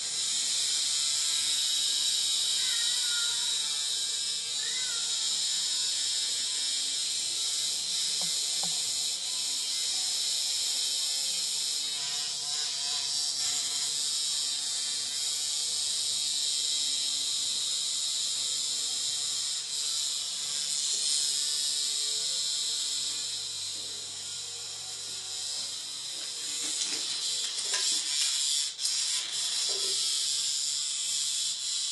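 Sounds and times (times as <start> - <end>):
vibrating toy bug buzzing: 0.0 - 31.9.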